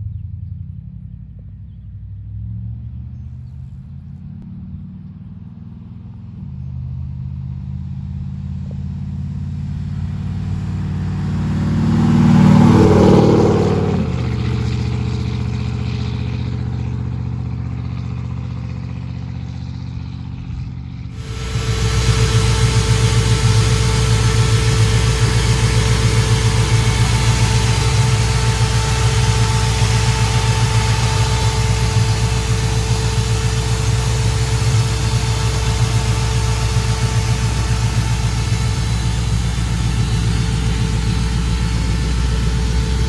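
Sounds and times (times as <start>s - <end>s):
truck engine driving past: 7.2s - 43.0s.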